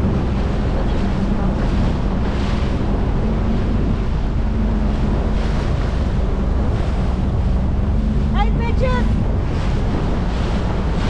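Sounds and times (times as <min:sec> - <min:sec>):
boat motor hum: 0:00.0 - 0:11.0
water rushing past hull: 0:00.0 - 0:11.0
wind buffeting microphone: 0:00.0 - 0:11.0.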